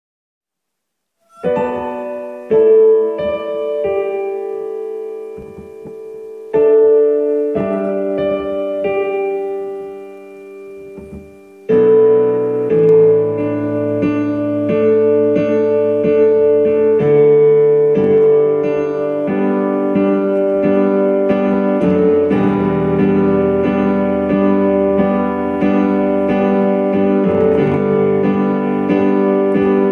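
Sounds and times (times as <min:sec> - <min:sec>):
piano chords: 0:01.2 - 0:29.9.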